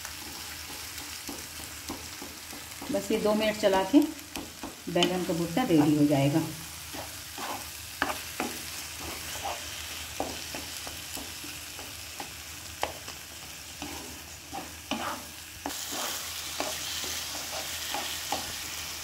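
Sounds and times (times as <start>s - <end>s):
spatula scraping a pan: 0.0s - 6.1s, 6.7s - 18.9s
frying sizzle: 0.0s - 19.0s.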